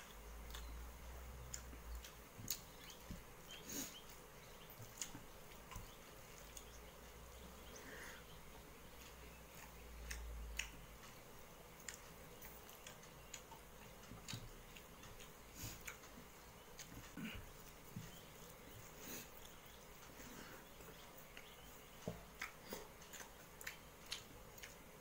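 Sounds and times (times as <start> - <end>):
chewing: 0.0 - 25.0.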